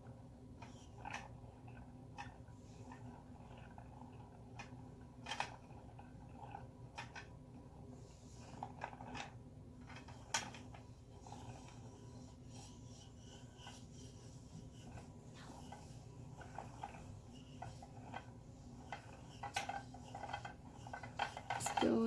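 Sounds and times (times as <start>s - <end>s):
yarn winder rubbing and clicking: 0.0s - 22.0s.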